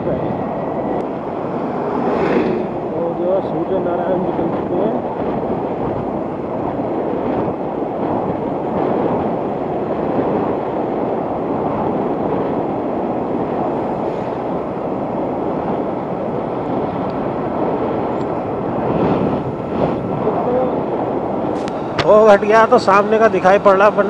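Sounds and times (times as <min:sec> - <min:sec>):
road noise: 0:00.0 - 0:24.0
wind rushing over microphone: 0:00.0 - 0:24.0.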